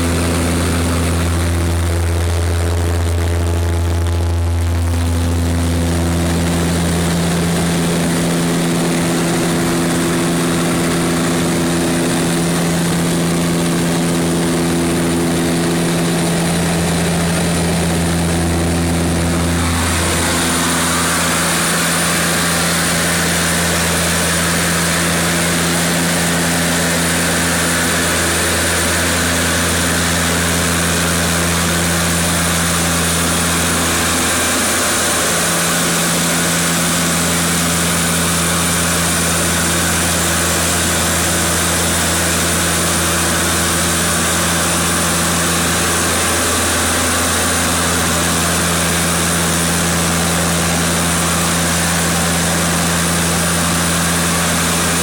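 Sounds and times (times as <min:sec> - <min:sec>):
high whine: 0:00.0 - 0:55.0
propeller engine drone: 0:00.0 - 0:55.0.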